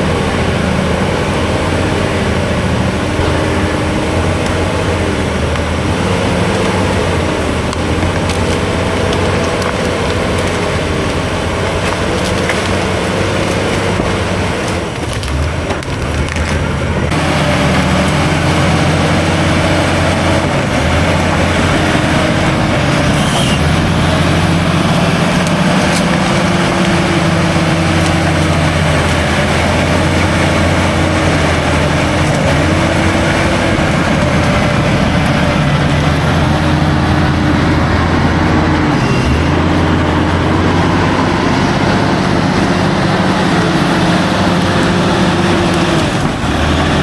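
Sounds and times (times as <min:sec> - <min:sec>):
diesel engine under load: 0:00.0 - 0:47.0
wood cracking and splintering: 0:00.0 - 0:47.0.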